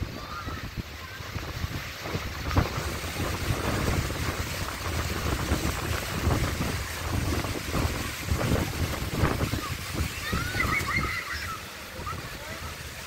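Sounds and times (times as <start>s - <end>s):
surf breaking on shore: 0.0s - 13.0s
wind buffeting microphone: 0.0s - 13.0s.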